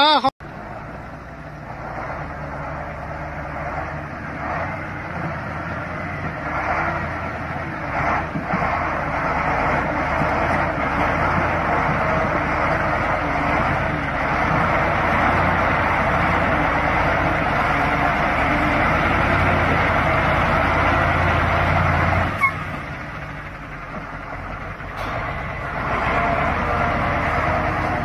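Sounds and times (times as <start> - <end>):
diesel truck engine under load: 0.4 - 28.0.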